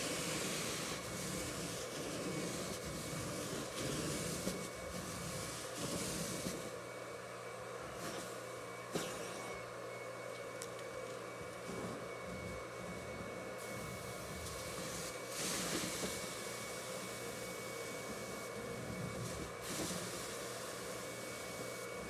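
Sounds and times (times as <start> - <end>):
extraction wand hissing on carpet: 0.0 - 6.9, 7.9 - 9.6, 11.6 - 22.0.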